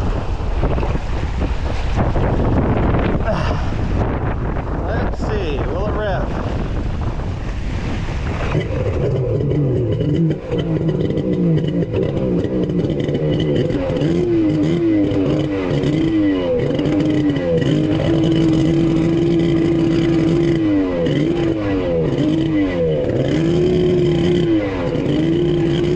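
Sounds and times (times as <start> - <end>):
jet ski engine revving: 0.1 - 25.9.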